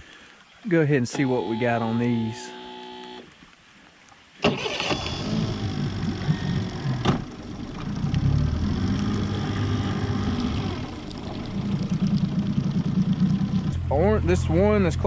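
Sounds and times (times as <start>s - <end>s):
outboard motor running: 1.1s - 3.3s, 4.7s - 15.0s.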